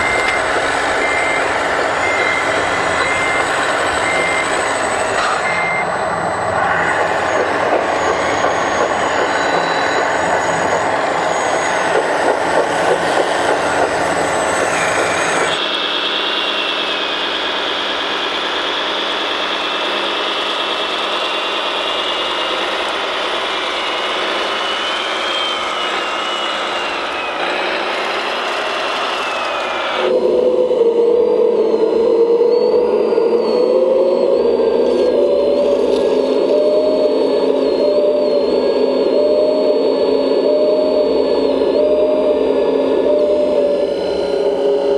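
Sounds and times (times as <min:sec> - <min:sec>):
small electric motors whining: 0:00.0 - 0:44.9.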